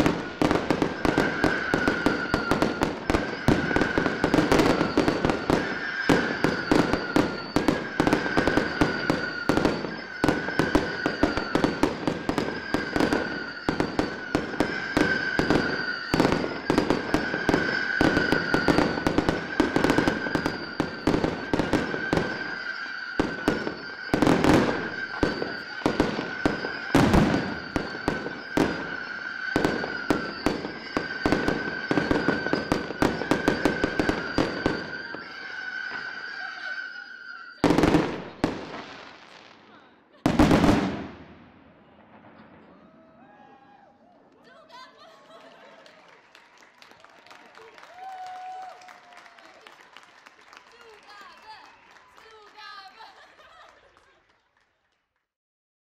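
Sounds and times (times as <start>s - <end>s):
steady high whistle: 0.0s - 39.1s, 45.3s - 53.7s
fireworks bangs: 0.0s - 54.6s.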